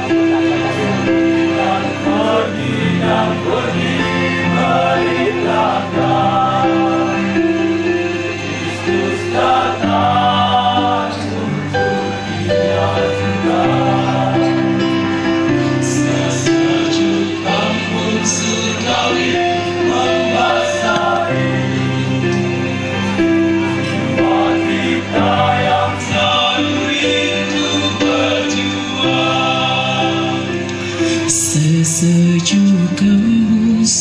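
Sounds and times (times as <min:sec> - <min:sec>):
male choir singing: 0:00.0 - 0:34.0.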